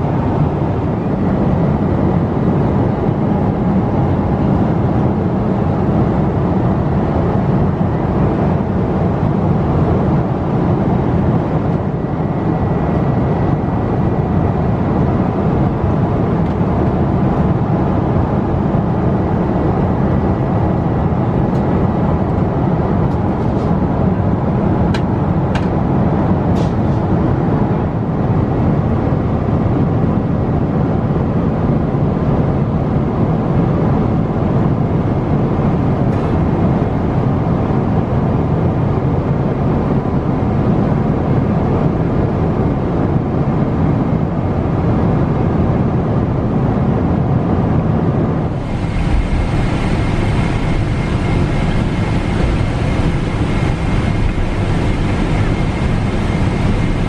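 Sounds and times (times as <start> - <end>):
airliner cabin engine rush: 0.0 - 57.0.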